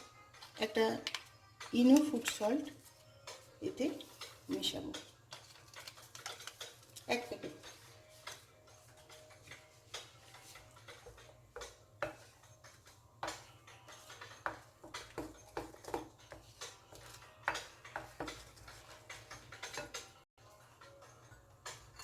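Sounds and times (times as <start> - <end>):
background music: 0.0 - 22.0
spoon stirring batter in bowl: 0.0 - 22.0.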